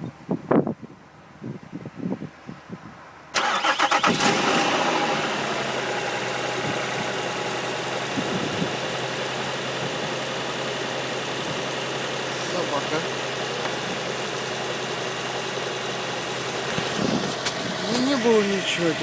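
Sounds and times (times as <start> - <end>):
car engine cranking and idling: 3.3 - 19.0.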